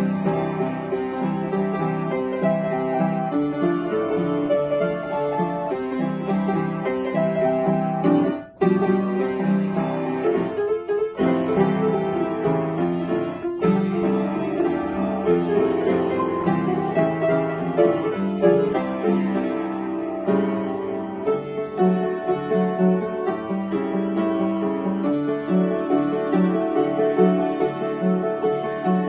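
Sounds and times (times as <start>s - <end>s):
upright piano playing: 0.0s - 29.0s.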